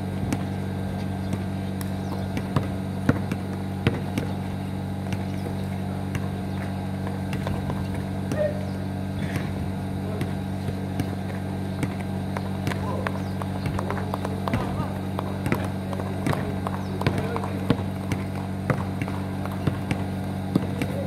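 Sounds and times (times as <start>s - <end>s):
basketball bouncing on asphalt: 0.0s - 21.0s
low mechanical hum: 0.0s - 21.0s.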